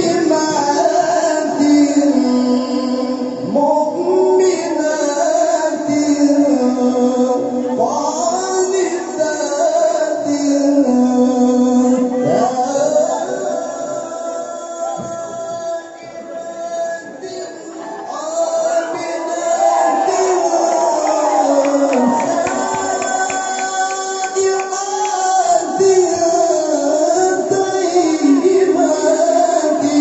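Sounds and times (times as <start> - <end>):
man reciting melodically: 0.0 - 30.0.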